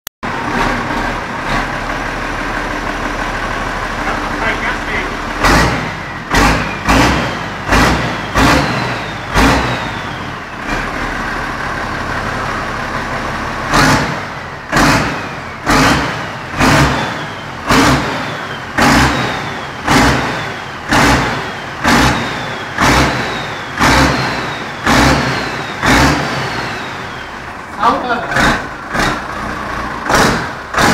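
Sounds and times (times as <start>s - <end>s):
tractor engine idling: 0.2s - 30.9s
tractor engine revving: 0.2s - 30.9s.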